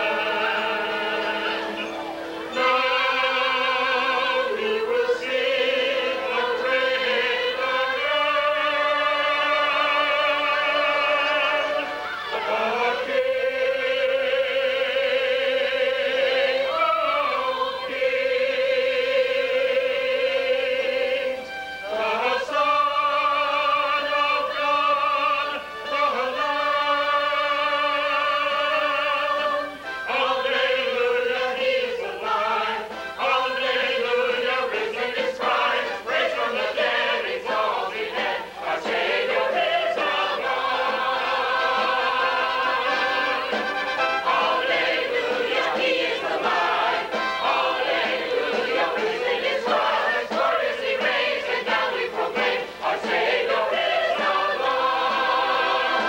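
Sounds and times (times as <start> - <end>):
large choir singing: 0.0 - 56.0.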